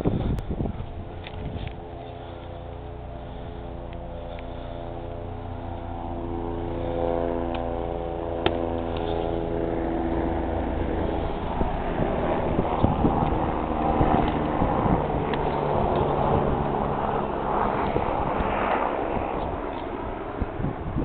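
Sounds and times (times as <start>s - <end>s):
motor engine running: 0.0s - 21.0s.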